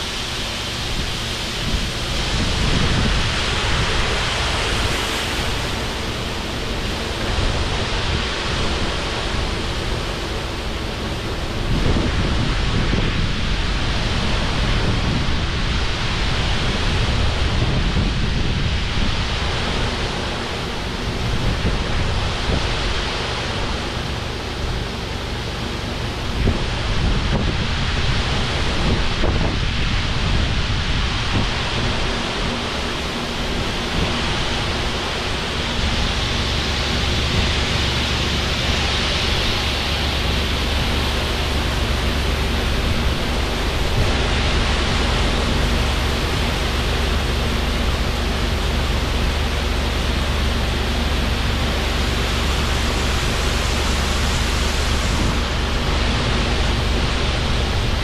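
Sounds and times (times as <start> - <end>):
machinery hum and hiss: 0.0 - 58.0
wind rumbling on microphone: 0.0 - 58.0.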